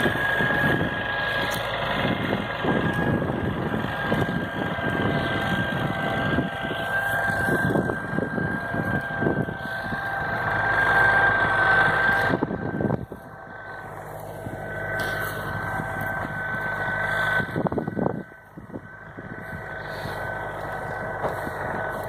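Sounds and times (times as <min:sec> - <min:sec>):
high whine: 0:00.0 - 0:22.0
tractor engine running under load: 0:00.0 - 0:22.0
wind rumbling on microphone: 0:00.0 - 0:22.0.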